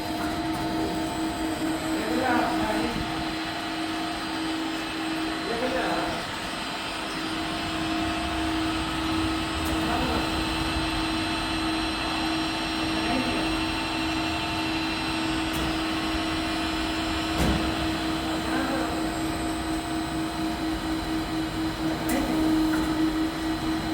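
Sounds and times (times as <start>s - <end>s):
milling machine humming: 0.0s - 23.9s.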